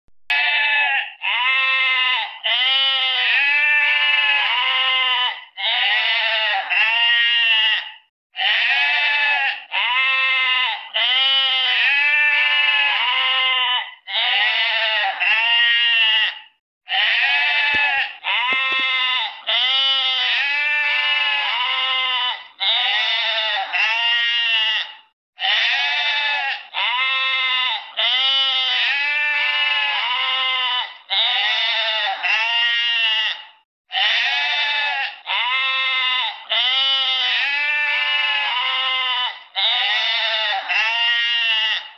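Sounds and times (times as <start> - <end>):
goats bleating: 0.3 - 41.9.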